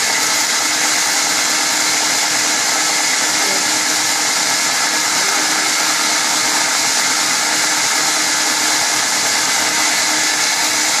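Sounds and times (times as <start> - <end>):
belt grinder whirring: 0.0 - 11.0.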